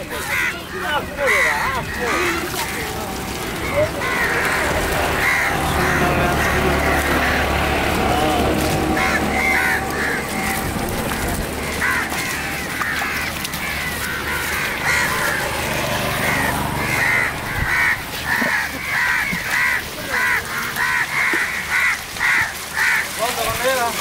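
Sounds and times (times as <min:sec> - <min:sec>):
crows cawing: 0:00.0 - 0:24.0.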